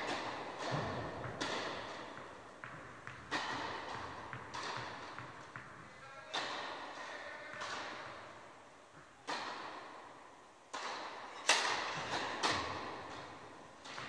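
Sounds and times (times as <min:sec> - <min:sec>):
tennis ball hits with echo: 0:00.0 - 0:14.0.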